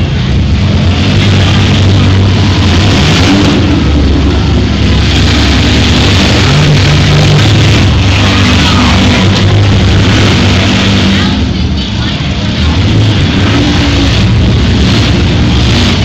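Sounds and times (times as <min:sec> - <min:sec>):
car engines revving hard: 0:00.0 - 0:16.0.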